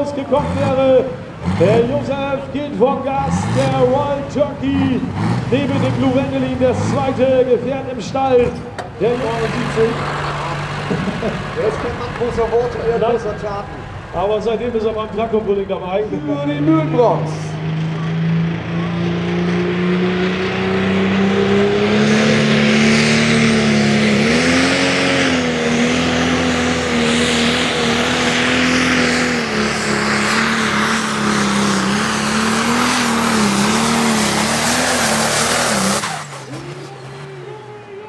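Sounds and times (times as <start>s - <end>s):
diesel tractor engine at full throttle: 0.0s - 38.0s.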